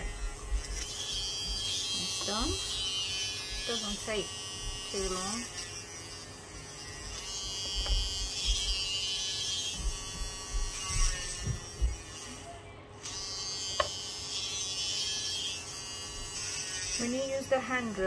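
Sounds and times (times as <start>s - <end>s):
electric drill whining: 0.0s - 18.0s.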